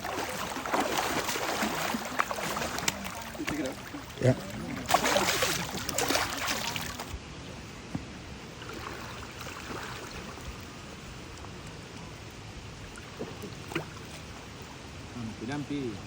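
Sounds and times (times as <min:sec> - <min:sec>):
river water flowing: 0:00.0 - 0:07.3, 0:08.2 - 0:16.0.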